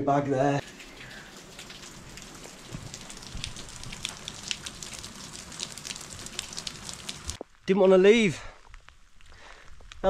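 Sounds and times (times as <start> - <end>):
rain pattering: 0.6 - 10.0.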